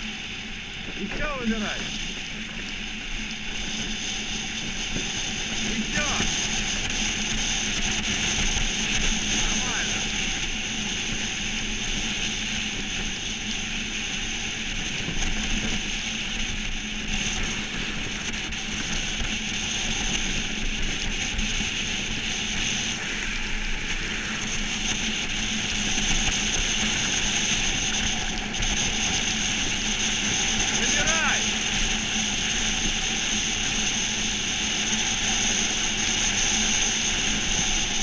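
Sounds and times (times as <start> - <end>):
wind: 0.0 - 38.0.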